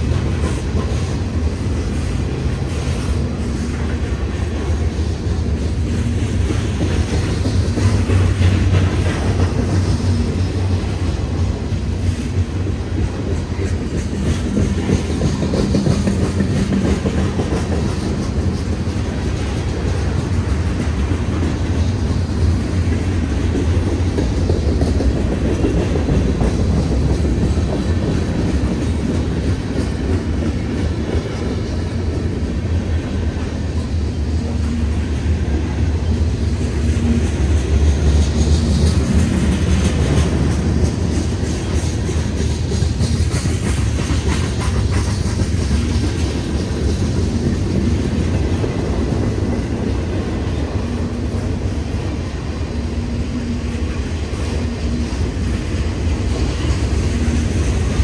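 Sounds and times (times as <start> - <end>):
freight train cars rolling past: 0.0 - 58.0
steel wheels clattering on rails: 0.0 - 58.0.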